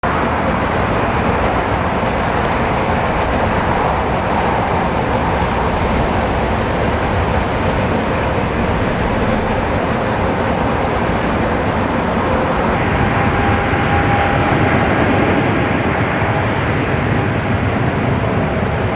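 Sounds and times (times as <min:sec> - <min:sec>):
jet engines roaring: 0:00.0 - 0:18.9.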